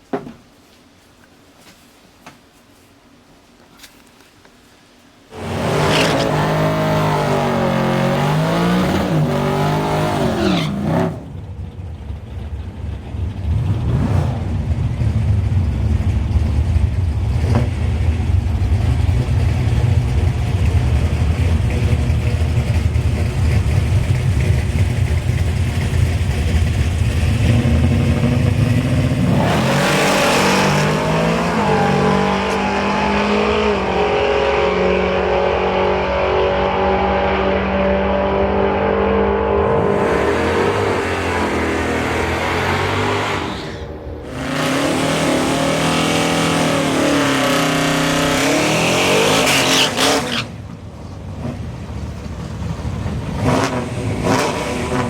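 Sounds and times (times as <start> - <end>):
loud engine running and revving: 5.3 - 11.5, 13.1 - 50.6, 51.4 - 55.0.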